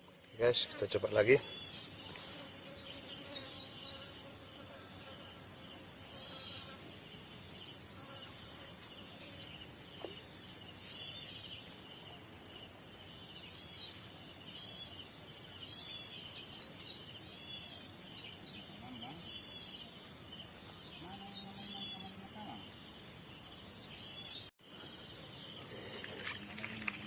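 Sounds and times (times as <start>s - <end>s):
insect chirps: 0.0s - 27.0s
insects droning: 0.0s - 27.0s.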